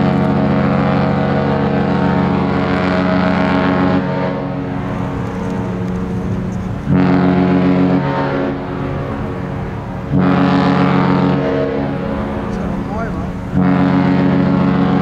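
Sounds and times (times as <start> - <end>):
deep ship's horn blasts: 0.0 - 15.0.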